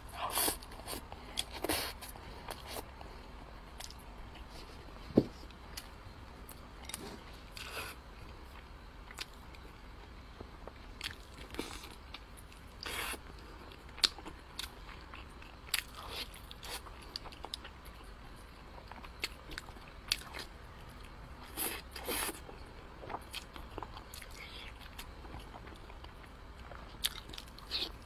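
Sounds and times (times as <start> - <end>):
mouth chewing sticky food: 0.0 - 4.9, 10.4 - 28.0.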